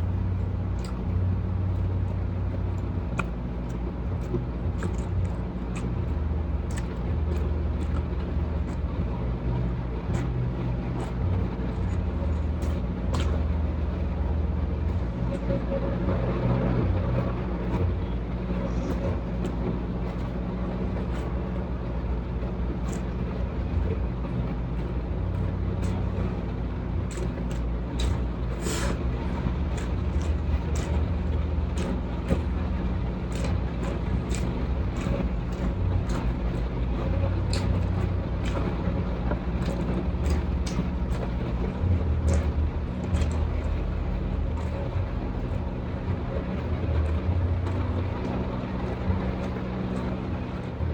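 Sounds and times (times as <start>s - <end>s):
chewing and eating: 0.0s - 50.9s
steady low rumble: 0.0s - 50.9s.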